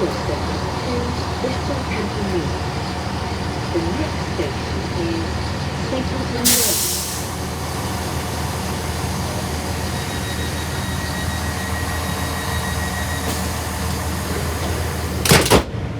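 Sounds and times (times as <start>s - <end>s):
train diesel engines idling: 0.0s - 15.9s.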